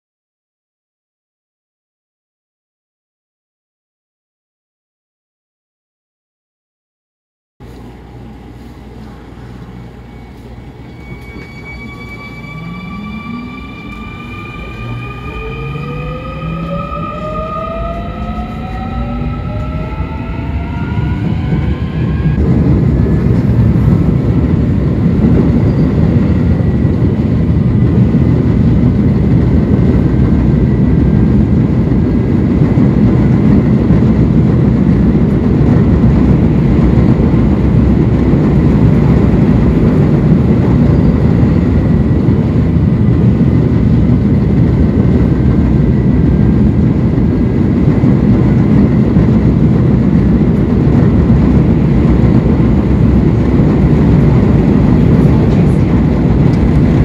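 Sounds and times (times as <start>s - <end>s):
train traction motor whine: 7.6s - 57.0s
train wheels rumbling on rails: 7.6s - 57.0s.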